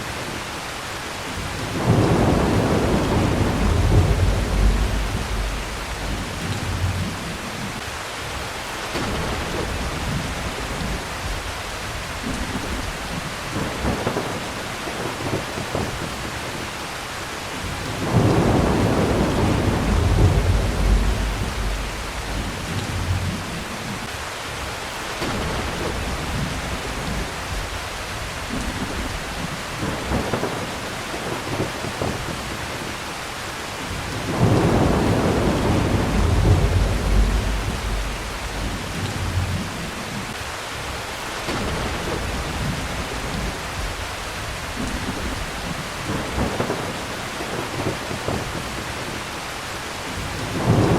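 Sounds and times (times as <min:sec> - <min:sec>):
heavy rain: 0:00.0 - 0:50.9
rolling thunder: 0:01.3 - 0:07.8, 0:08.9 - 0:16.6, 0:17.6 - 0:24.1, 0:25.2 - 0:32.9, 0:33.9 - 0:40.4, 0:41.5 - 0:49.2, 0:50.1 - 0:50.9.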